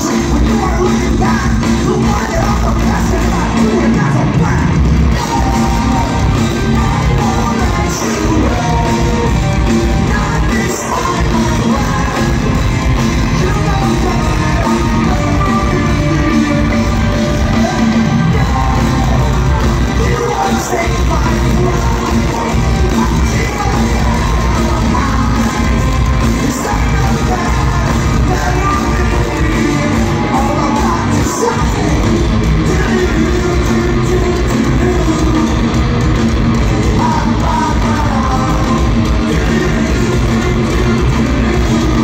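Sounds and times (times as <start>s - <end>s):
fans yelling: 0.0s - 42.0s
lead vocal singing: 0.0s - 42.0s
live rock band playing: 0.0s - 42.0s.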